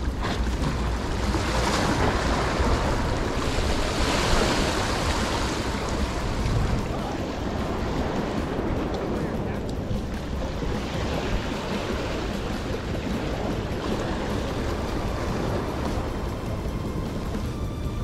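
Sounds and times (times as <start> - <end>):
waves washing over rocks: 0.0 - 17.3
wind buffeting microphone: 0.0 - 18.0.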